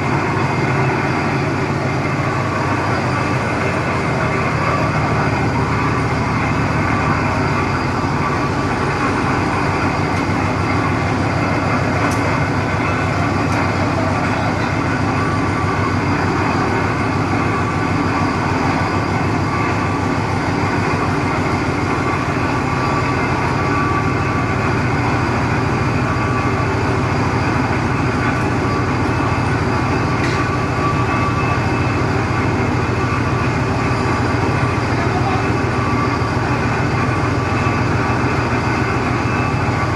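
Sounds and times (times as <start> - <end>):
piling machinery drone: 0.0 - 39.9.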